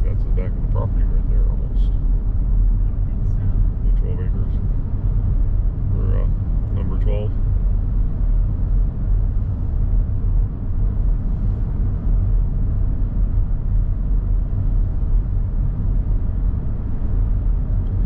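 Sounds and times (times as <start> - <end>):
vehicle rumble from inside: 0.0 - 18.0.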